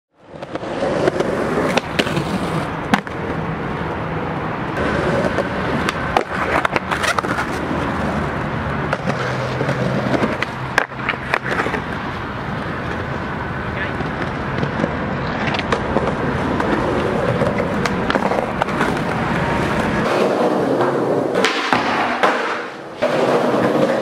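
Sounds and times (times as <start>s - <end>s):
skateboard wheels rolling on concrete: 0.1s - 24.0s
skateboard sliding on concrete ledge: 0.2s - 24.0s
skateboard tail clacks: 0.3s - 4.0s, 4.7s - 24.0s.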